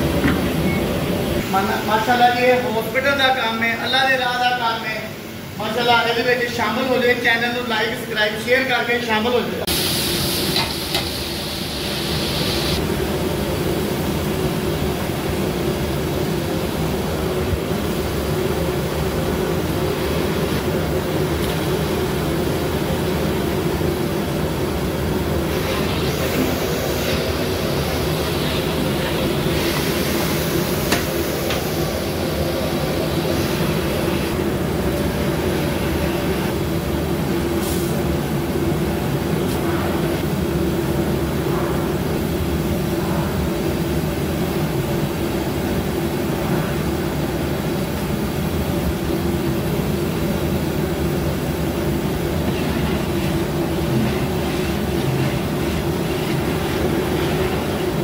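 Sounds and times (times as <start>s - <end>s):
gas burner roaring: 0.0s - 3.1s, 9.6s - 58.0s.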